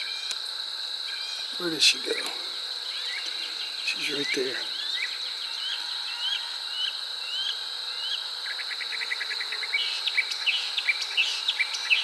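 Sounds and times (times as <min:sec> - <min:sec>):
high-pitched insect whine: 0:00.0 - 0:12.0.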